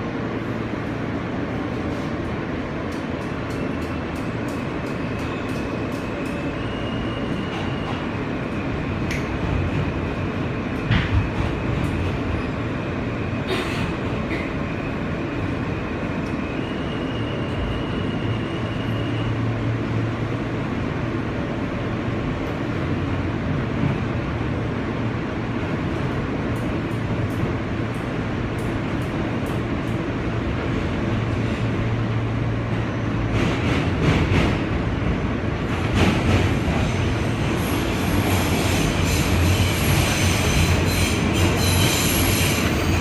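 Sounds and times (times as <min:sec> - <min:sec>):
train wheels running on rails: 0:00.0 - 0:43.0.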